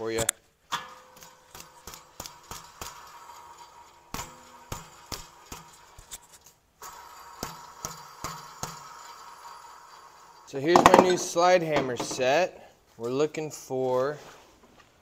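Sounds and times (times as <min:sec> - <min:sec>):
wheel bearing grinding and clicking: 0:00.2 - 0:12.4.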